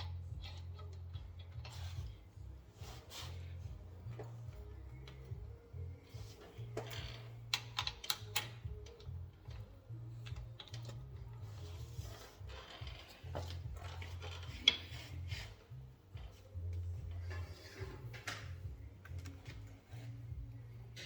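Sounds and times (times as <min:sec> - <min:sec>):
quiet background music with bass: 0:00.0 - 0:21.0.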